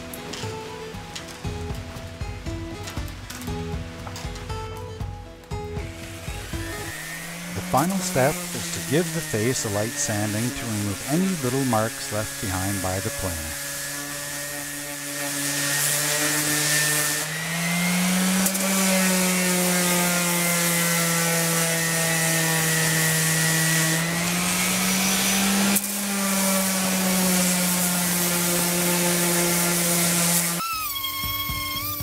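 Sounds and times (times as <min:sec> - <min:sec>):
orbital sander on wood: 0:05.8 - 0:32.0.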